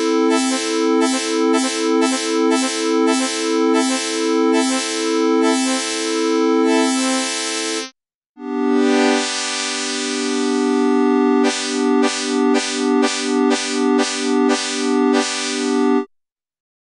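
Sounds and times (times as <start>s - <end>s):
synthesizer chord pulsing: 0.0s - 16.1s.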